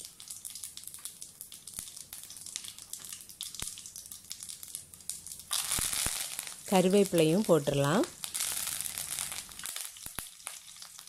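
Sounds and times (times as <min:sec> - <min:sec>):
seeds sizzling in hot oil: 0:00.0 - 0:11.0
small crackles and pops: 0:00.0 - 0:11.0.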